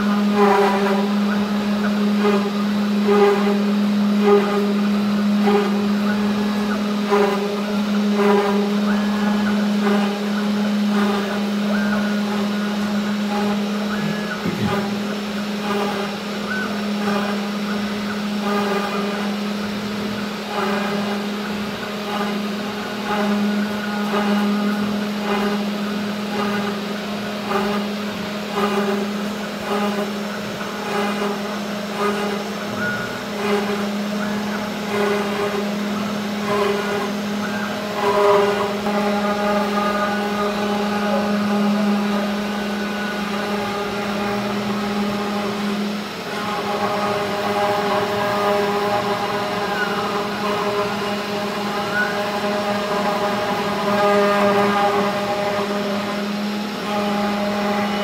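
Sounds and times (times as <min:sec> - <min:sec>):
bit engraving plywood: 0:00.0 - 0:58.0
router spindle running: 0:00.0 - 0:58.0
stepper motors whining: 0:00.0 - 0:58.0.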